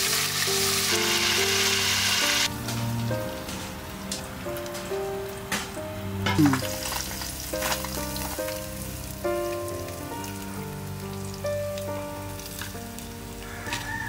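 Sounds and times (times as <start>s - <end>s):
hot oil sizzling and crackling: 0.0s - 5.6s, 6.6s - 14.0s
instrumental music: 0.0s - 14.0s.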